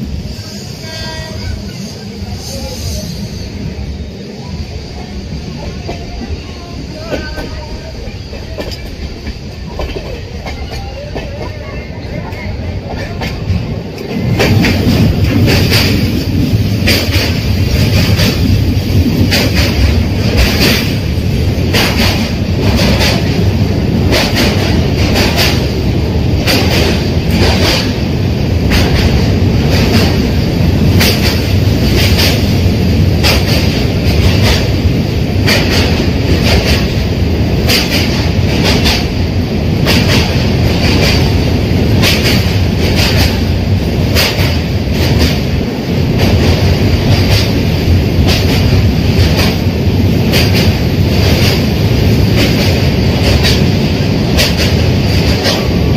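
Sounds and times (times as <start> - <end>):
train running on track: 0.0 - 55.9
clickety-clack of rail joints: 5.6 - 55.9.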